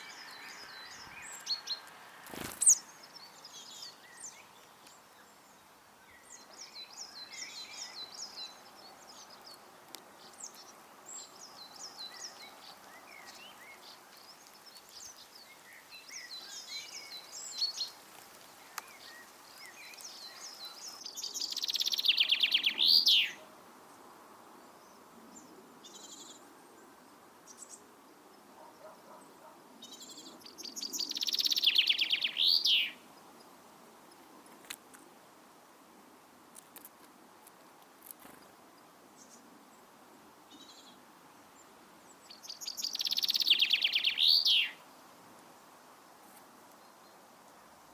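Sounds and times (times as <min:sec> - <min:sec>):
songbirds singing: 0:00.0 - 0:35.5, 0:36.5 - 0:45.8.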